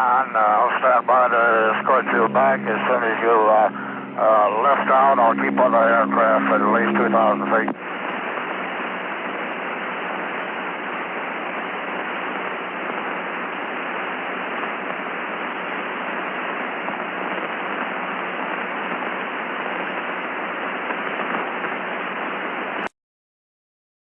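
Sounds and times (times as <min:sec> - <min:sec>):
radio static hiss: 0:00.0 - 0:22.9.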